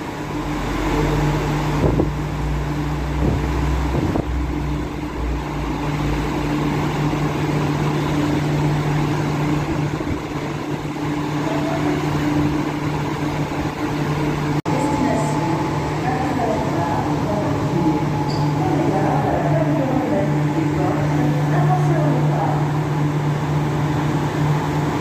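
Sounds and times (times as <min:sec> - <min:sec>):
air-conditioning hum: 0:00.0 - 0:25.0.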